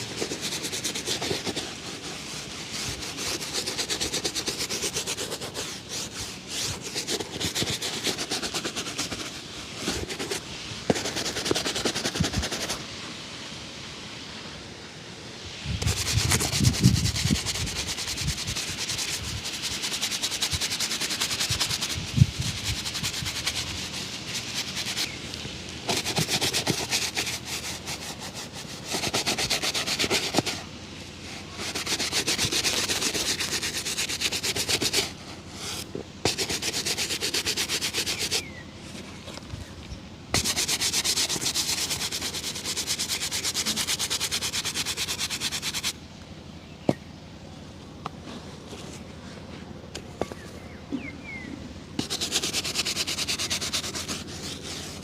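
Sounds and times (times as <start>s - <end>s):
rubbing strokes on a shoe: 0.0s - 12.9s, 15.7s - 39.7s, 40.3s - 46.0s, 52.0s - 55.0s.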